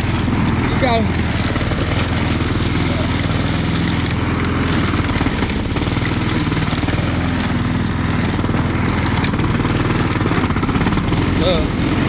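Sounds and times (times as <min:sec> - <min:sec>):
lawn mower cutting grass: 0:00.0 - 0:12.0.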